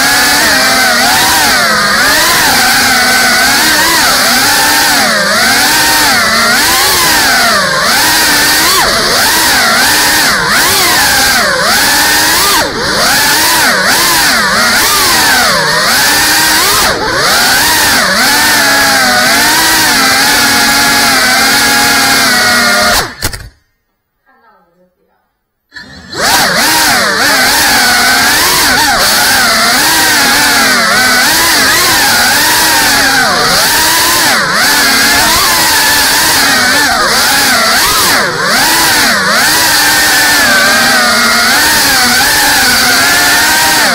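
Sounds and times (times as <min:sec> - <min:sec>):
drone motors whining: 0:00.0 - 0:23.6, 0:25.7 - 0:43.9.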